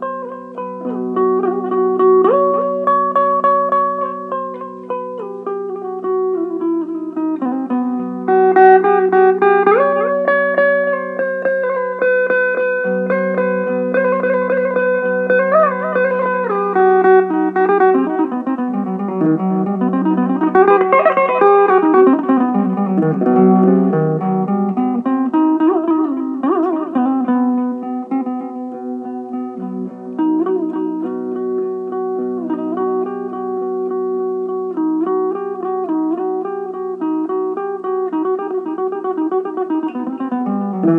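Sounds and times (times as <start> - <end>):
electric mandolin melody: 0.0 - 40.9.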